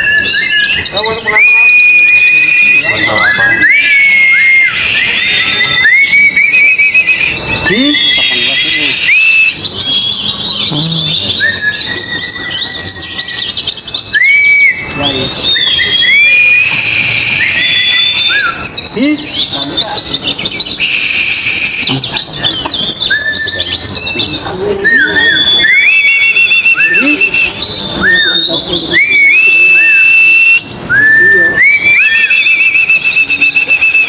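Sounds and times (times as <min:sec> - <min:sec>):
birds chattering song: 0:00.0 - 0:34.0
whistled bird notes: 0:00.0 - 0:34.0.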